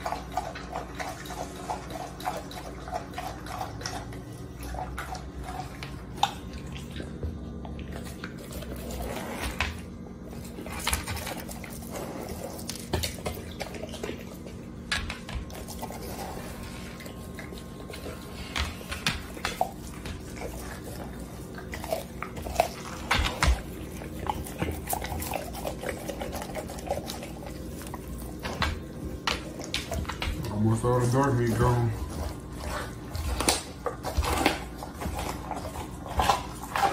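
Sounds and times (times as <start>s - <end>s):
dog chewing and tearing meat: 0.0s - 36.9s.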